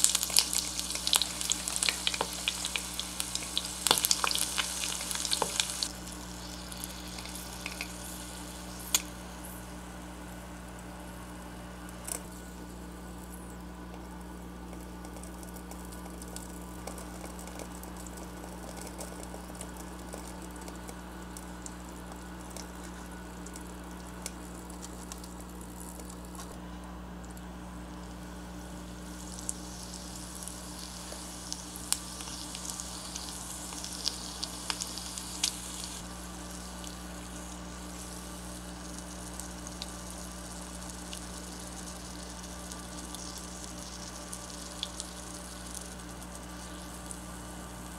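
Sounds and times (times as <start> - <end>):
oil sizzling and crackling: 0.0 - 26.6, 27.2 - 47.9
steady low hum: 0.0 - 47.9.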